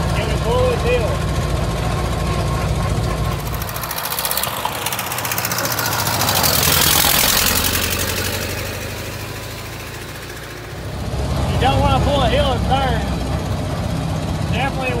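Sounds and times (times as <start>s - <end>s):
car engine driving past: 1.6s - 15.0s.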